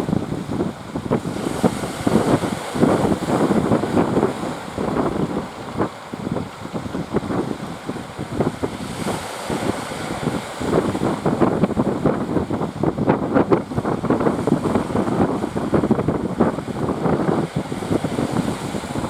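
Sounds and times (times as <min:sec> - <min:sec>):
sea surf rushing: 0:00.0 - 0:19.0
wind buffeting microphone: 0:00.0 - 0:19.0.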